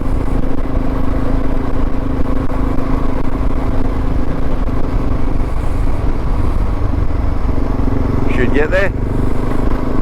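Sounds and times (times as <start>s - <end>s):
motorcycle engine running: 0.0s - 10.0s
wind rumble on microphone: 0.0s - 10.0s.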